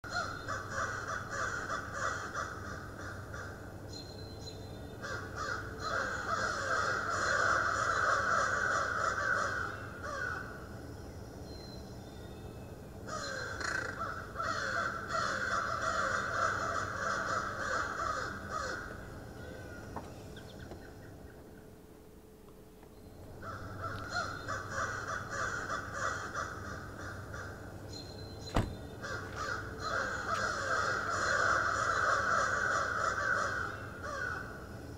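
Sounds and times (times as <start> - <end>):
steady low hum: 0.0 - 34.9
birds calling: 0.1 - 34.9.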